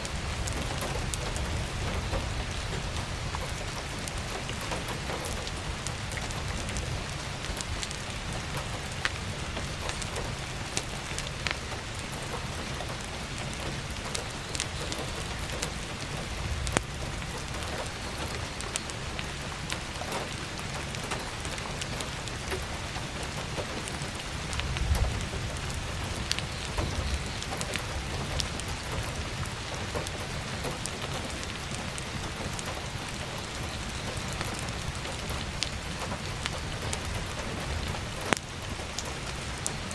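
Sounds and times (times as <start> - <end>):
heavy rain on a skylight: 0.0 - 39.9
logs crackling in a wood stove: 0.0 - 39.9.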